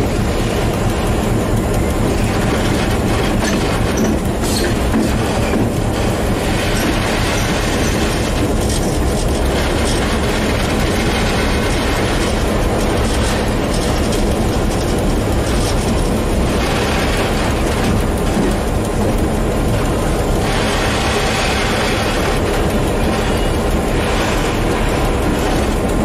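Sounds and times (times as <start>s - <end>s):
locomotive engine: 0.0s - 26.0s
wheels on rails: 0.0s - 26.0s.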